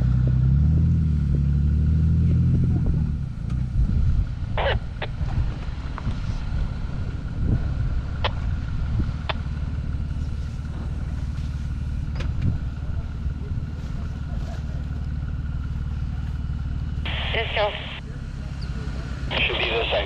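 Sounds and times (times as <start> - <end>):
car engine running low: 0.0 - 20.0.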